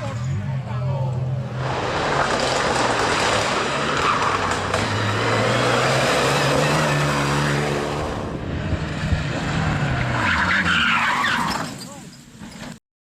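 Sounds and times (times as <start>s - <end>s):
tyre and road noise: 0.0s - 12.8s.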